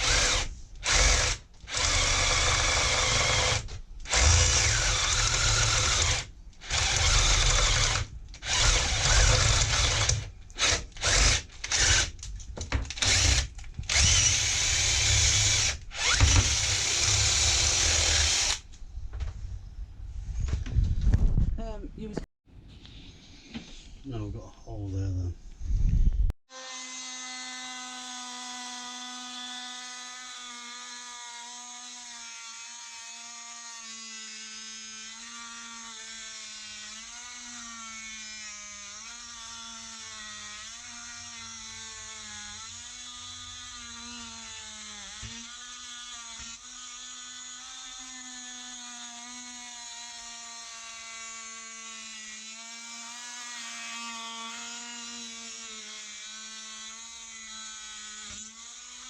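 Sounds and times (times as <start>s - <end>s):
multi-tool cutting into wood: 0.0s - 12.3s, 12.9s - 18.7s, 26.5s - 59.0s.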